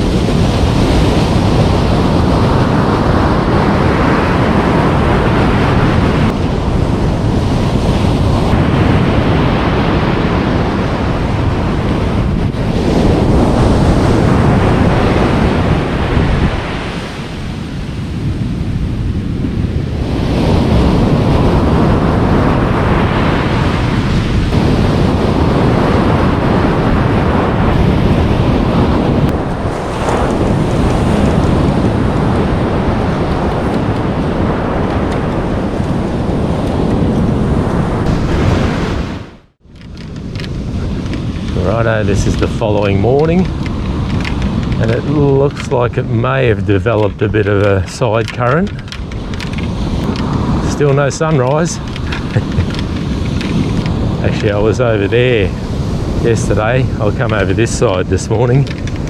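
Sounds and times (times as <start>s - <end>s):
surf breaking on a beach: 0.0s - 59.0s
wind buffeting microphone: 0.0s - 59.0s.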